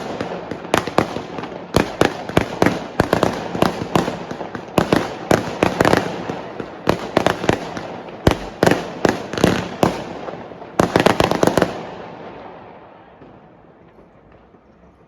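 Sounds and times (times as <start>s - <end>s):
fireworks bangs with echo: 0.0s - 14.7s.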